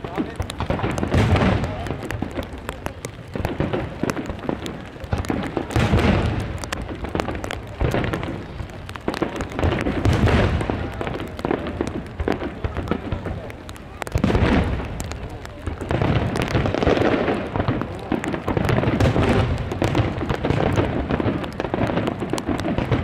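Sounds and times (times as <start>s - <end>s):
fireworks booming: 0.0s - 23.0s
fireworks popping and crackling: 0.0s - 23.0s.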